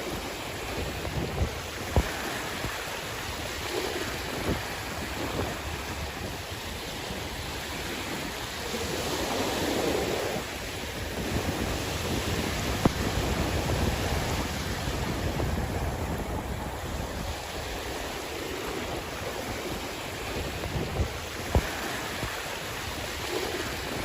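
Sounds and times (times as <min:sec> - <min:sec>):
sea waves washing in: 0:00.0 - 0:24.0
wind buffeting microphone: 0:00.0 - 0:24.0.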